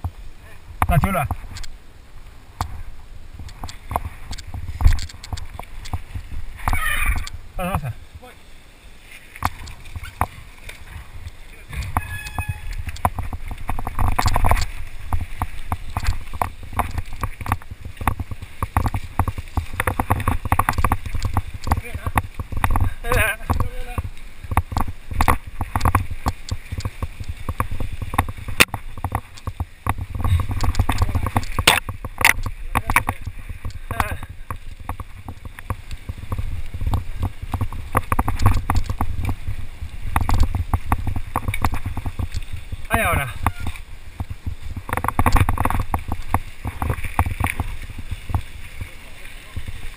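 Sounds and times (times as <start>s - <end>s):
wind rumble on microphone: 0.0s - 8.3s, 9.3s - 49.9s
mountain bike rattling: 3.4s - 7.8s, 9.3s - 49.9s.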